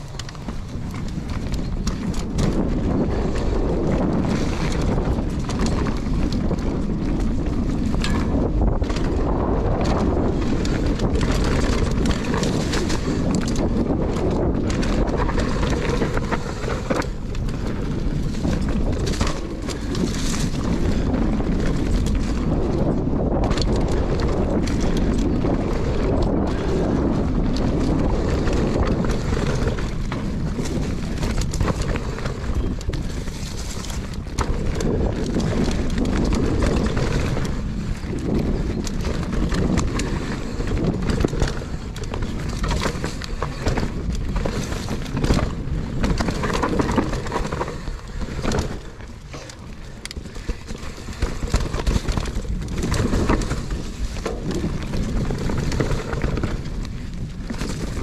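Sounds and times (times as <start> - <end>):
bike knocks and rattles: 0.0 - 58.0
tyres rolling over dirt and leaves: 0.0 - 58.0
wind buffeting microphone: 0.0 - 58.0.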